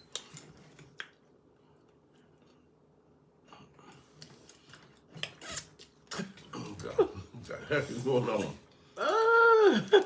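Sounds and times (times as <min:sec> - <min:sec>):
soft chewing: 0:00.1 - 0:08.8.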